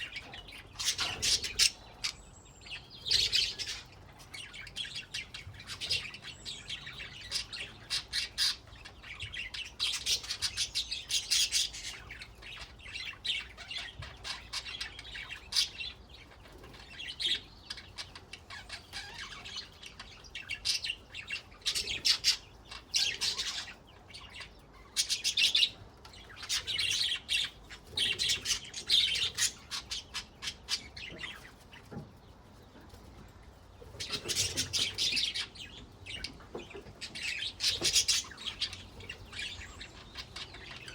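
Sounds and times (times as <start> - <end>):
budgerigars chattering: 0.0 - 32.1, 33.8 - 40.9.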